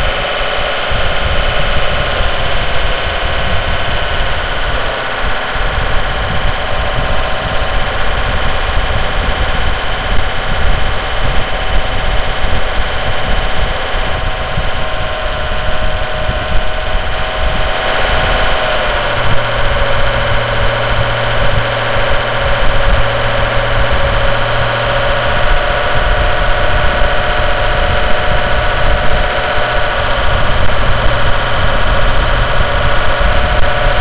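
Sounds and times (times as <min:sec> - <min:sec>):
diesel truck engine running: 0:00.0 - 0:34.0.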